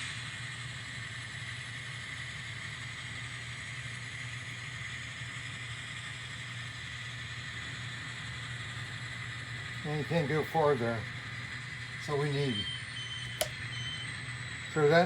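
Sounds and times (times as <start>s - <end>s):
model train motor humming: 0.0s - 15.0s.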